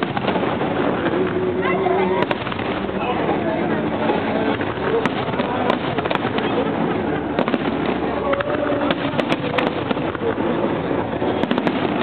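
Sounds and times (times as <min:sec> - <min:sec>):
fireworks cracking: 0:00.0 - 0:12.0
fireworks rumble: 0:00.0 - 0:12.0.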